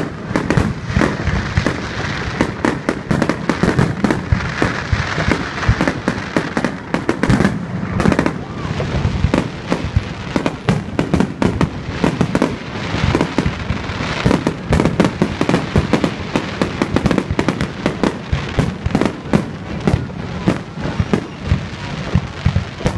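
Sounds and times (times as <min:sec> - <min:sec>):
fireworks bursting and crackling: 0:00.0 - 0:22.9.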